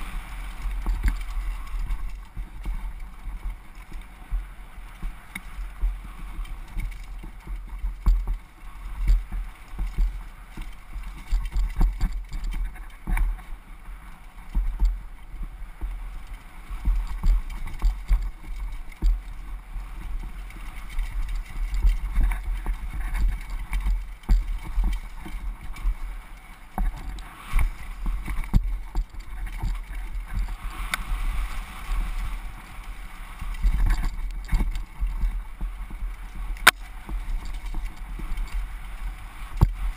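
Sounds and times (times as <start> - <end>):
bike knocking and rattling: 0.0 - 39.9.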